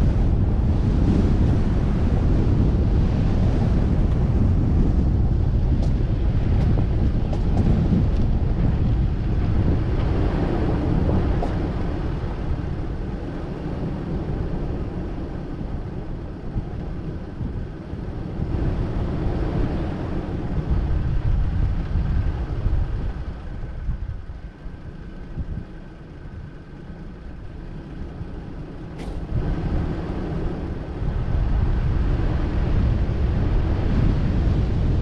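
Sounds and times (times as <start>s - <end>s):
vehicle driving on dirt road: 0.0s - 35.0s
wind on microphone: 0.0s - 35.0s.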